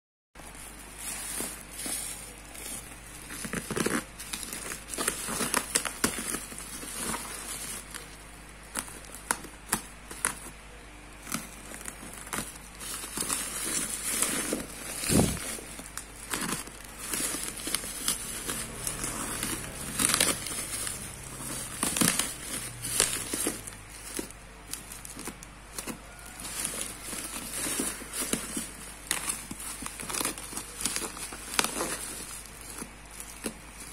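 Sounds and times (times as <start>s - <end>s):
bubble wrap and tape crinkling: 0.4s - 33.9s.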